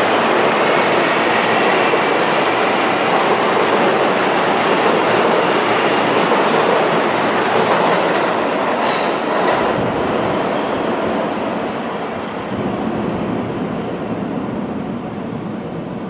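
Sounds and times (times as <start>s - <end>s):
subway train wheels rumbling on rail: 0.0s - 16.0s.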